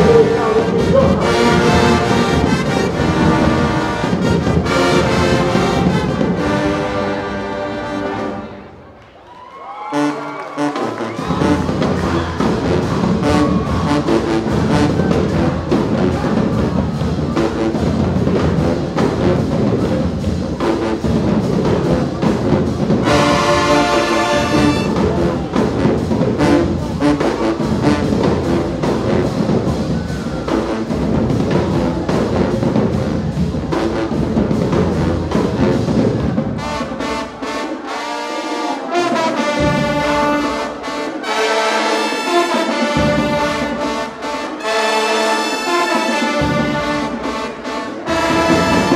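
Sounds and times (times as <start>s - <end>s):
drums hitting: 0.0s - 7.5s, 10.8s - 37.6s, 42.7s - 48.9s
marching band playing: 0.0s - 48.9s.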